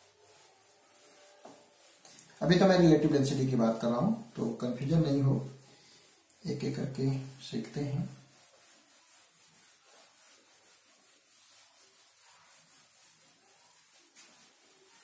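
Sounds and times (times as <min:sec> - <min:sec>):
duster rubbing whiteboard: 0:00.0 - 0:15.0.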